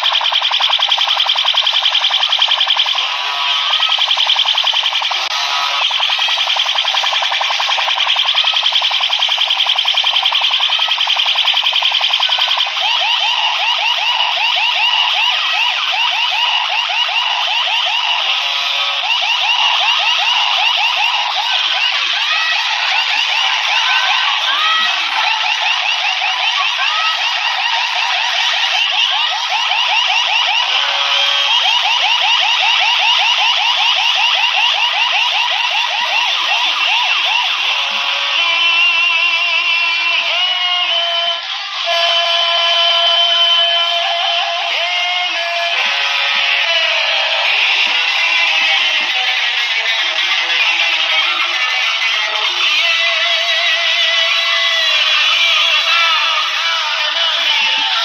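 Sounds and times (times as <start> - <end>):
electronic siren sound effect: 0.0 - 58.0.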